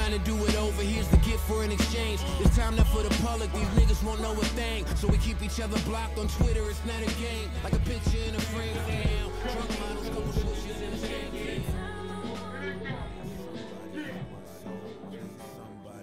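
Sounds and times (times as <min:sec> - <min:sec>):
rapping over a hip hop beat: 0:00.0 - 0:16.0.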